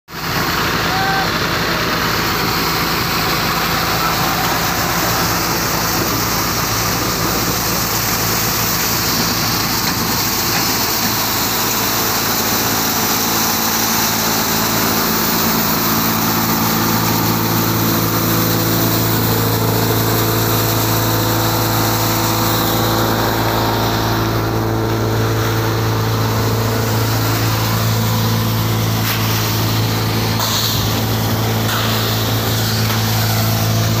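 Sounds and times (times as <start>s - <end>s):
thresher mechanical hum: 0.1s - 34.0s.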